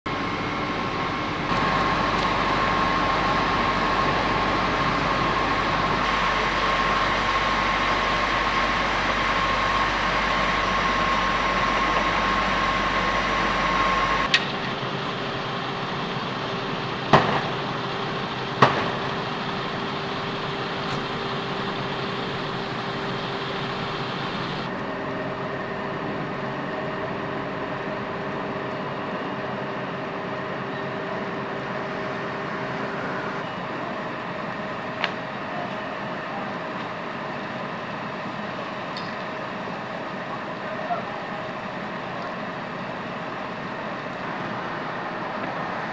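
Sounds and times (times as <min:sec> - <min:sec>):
fire engine pumps humming: 0:00.1 - 0:45.9.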